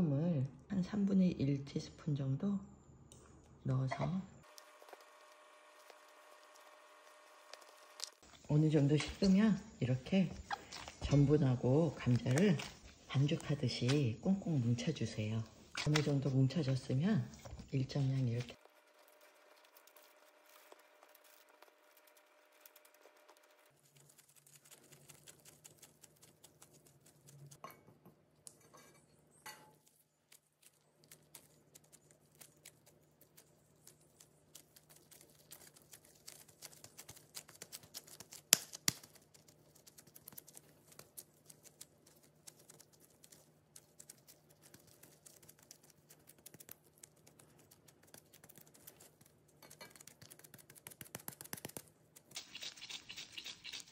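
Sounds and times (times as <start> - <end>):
plastic gloves crinkling: 4.4 - 27.6, 29.7 - 53.9.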